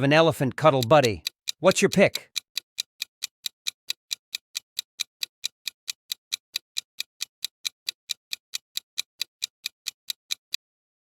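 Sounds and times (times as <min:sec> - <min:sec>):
fast clock ticks: 0:00.0 - 0:10.6.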